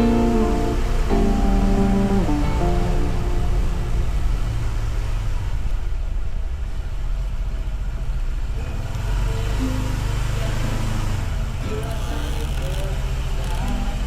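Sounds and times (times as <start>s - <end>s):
faint music: 0.0s - 14.0s
scooter engine rumble: 0.0s - 14.0s.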